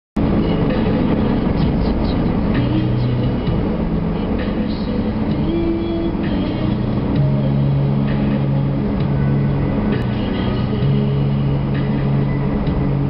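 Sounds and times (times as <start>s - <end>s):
car engine and tyre noise: 0.2s - 13.0s.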